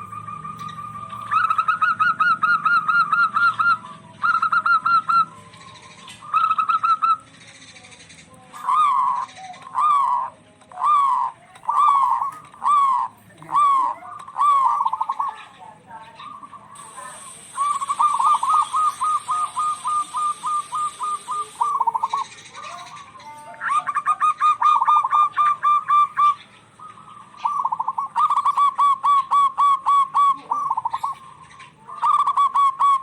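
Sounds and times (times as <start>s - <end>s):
doves cooing: 0.0s - 33.0s
doves rattling calls: 0.0s - 33.0s.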